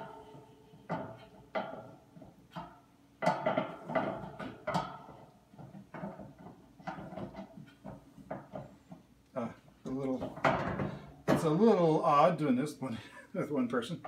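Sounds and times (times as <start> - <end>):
metal knocks and clatter: 0.0 - 11.9.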